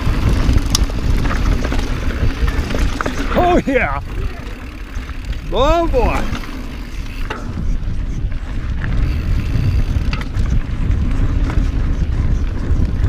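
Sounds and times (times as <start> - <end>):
bike rattling: 0.0 - 13.0
bike rolling on dirt trail: 0.0 - 13.0
wind buffeting microphone: 0.0 - 13.0.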